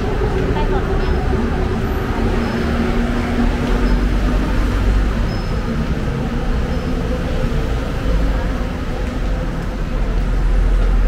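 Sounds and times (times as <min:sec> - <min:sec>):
steady engine hum: 0:00.0 - 0:11.0
traffic rumble: 0:00.0 - 0:11.0.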